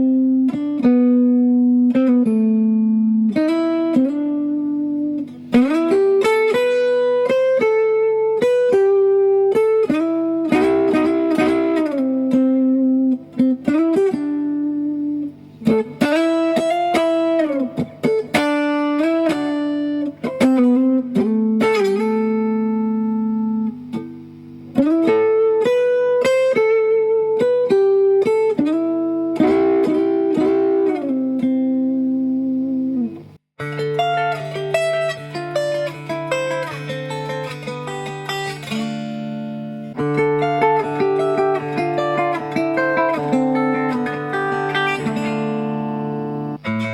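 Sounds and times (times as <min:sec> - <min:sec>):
electric guitar through amp: 0:00.0 - 0:46.9.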